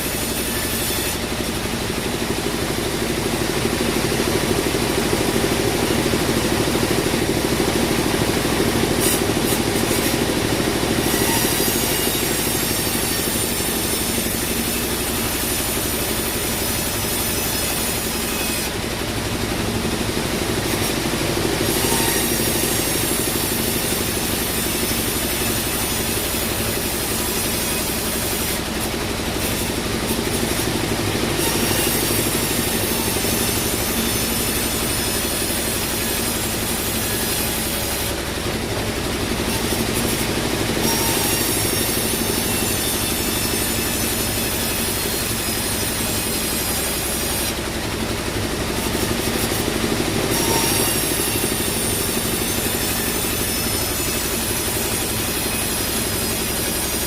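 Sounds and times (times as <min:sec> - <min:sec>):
machine hum: 0:00.0 - 0:56.6
bandsaw sawing through log: 0:00.0 - 0:57.0.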